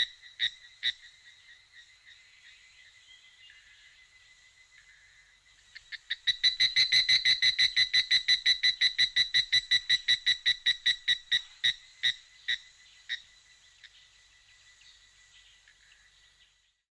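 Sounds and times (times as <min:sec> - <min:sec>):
cricket chirping: 0:00.0 - 0:16.8.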